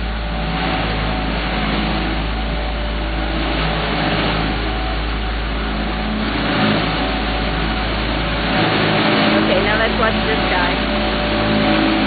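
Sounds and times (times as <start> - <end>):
paving machine engine drone: 0.0 - 12.0.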